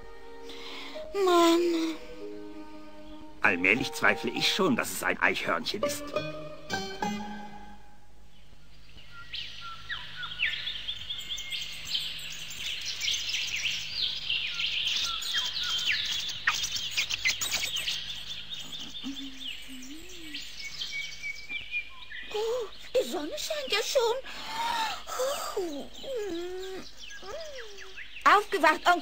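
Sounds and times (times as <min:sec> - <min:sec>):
songbirds chirping and twittering: 0:00.0 - 0:29.0.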